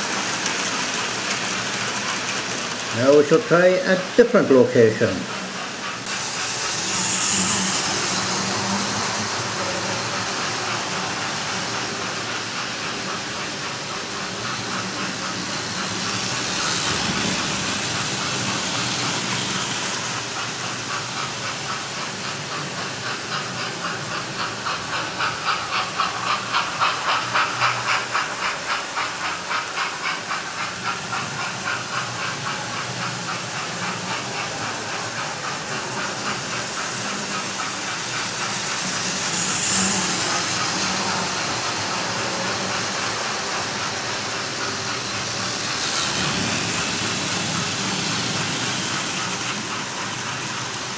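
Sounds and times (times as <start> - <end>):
model train motors hissing: 0.0 - 50.9
steam engine chuffing: 0.0 - 50.9.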